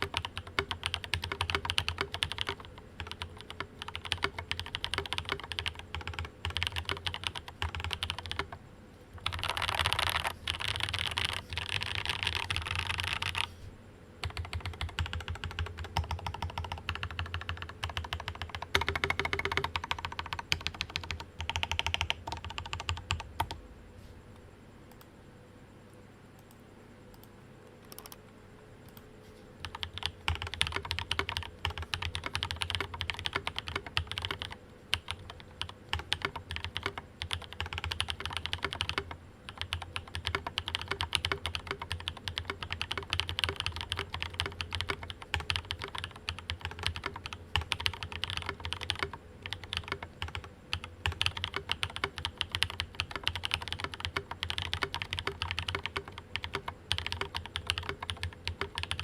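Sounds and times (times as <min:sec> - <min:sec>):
mechanical keyboard typing: 0:00.0 - 0:08.6, 0:09.2 - 0:13.5, 0:14.2 - 0:23.6, 0:27.1 - 0:28.2, 0:29.6 - 0:59.0.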